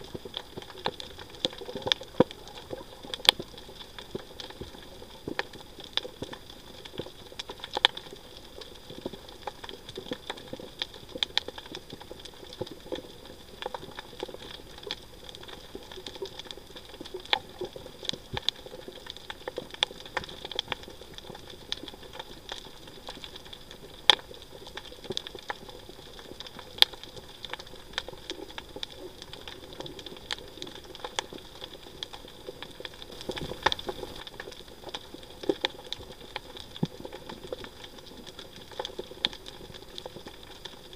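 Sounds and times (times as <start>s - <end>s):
crackle of underwater clicks: 0.0s - 40.9s.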